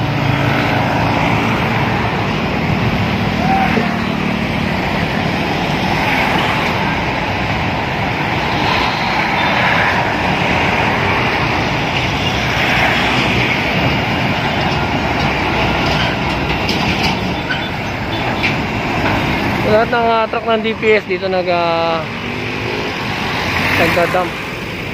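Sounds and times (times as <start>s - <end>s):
passing vehicle traffic: 0.0s - 24.9s.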